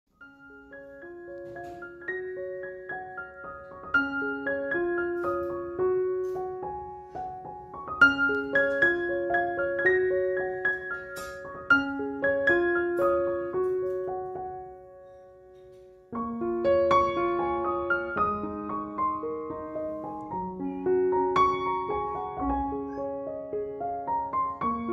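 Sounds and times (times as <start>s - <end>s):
piano melody: 0.1s - 24.9s.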